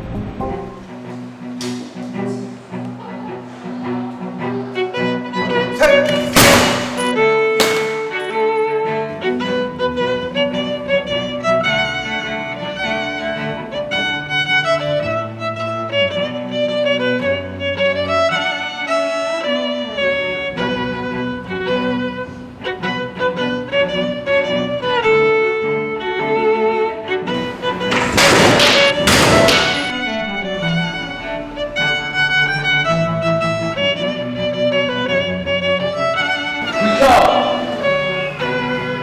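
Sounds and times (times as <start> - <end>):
violin melody over strings: 0.2 - 39.0.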